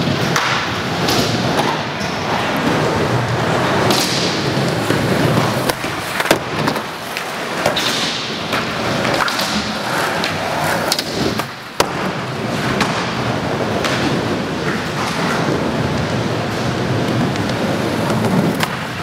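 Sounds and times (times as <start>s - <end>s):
skateboard clacks: 0.0s - 19.0s
skateboard wheels rolling: 0.0s - 19.0s.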